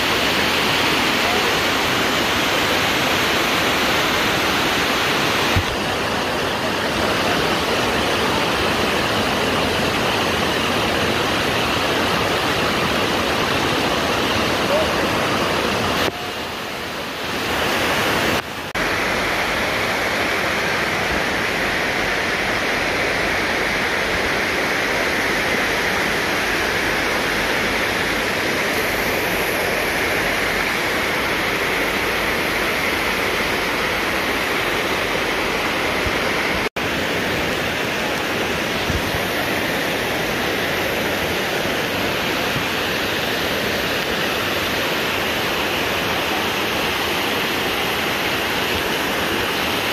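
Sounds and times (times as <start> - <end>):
waterfall rushing and splashing: 0.0 - 49.9.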